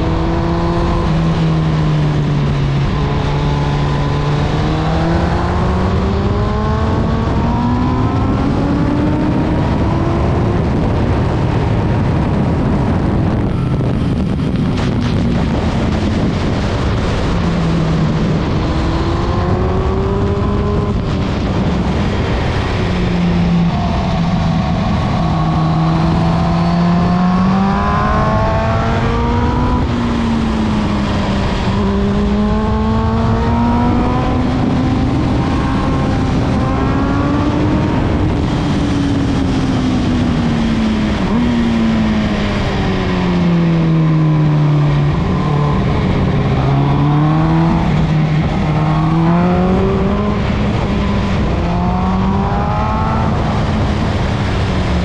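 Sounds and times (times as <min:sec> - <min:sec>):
loud steady rushing noise: 0:00.0 - 0:55.0
motorcycle engine accelerating: 0:00.0 - 0:55.0.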